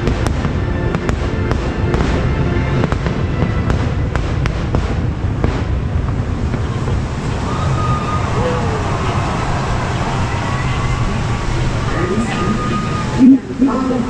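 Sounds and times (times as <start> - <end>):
fireworks banging and crackling: 0.0 - 13.3
music playing: 0.0 - 14.0.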